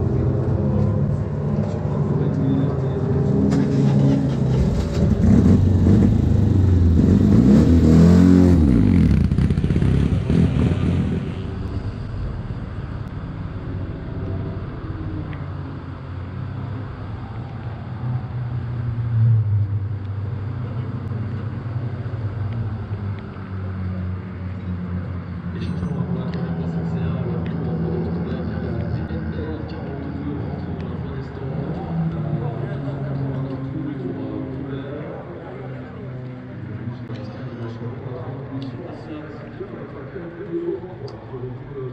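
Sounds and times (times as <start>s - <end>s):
race car engine revving: 0.0s - 36.9s.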